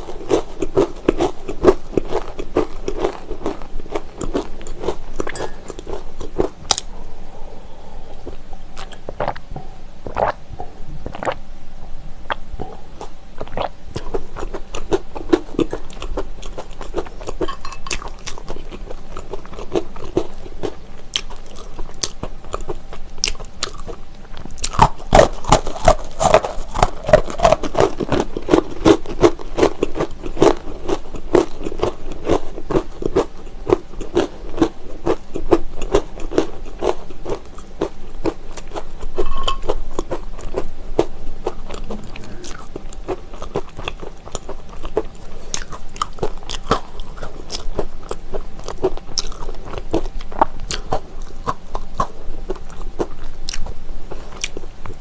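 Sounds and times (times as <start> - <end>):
crunching pretzel sticks: 0.0 - 6.9, 13.0 - 55.0.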